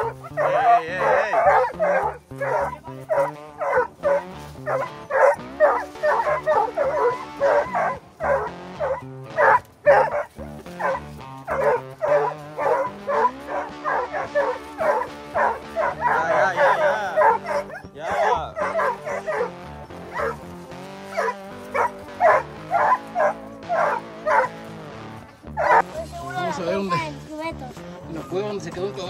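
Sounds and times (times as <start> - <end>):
hounds barking and baying: 0.0 - 27.0.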